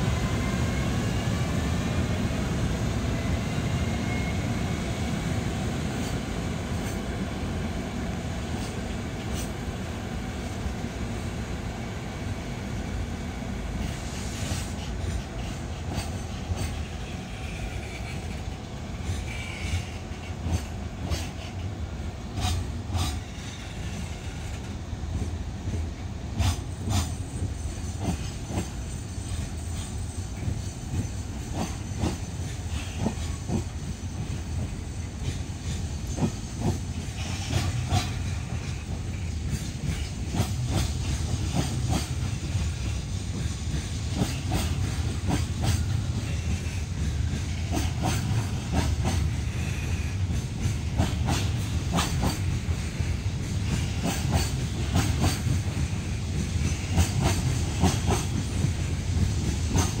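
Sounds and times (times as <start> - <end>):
freight train rumbling past: 0.0 - 60.0.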